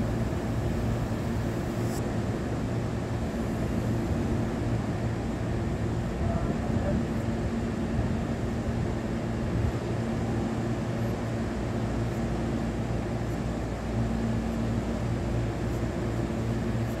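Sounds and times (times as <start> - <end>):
train equipment humming: 0.0 - 17.0.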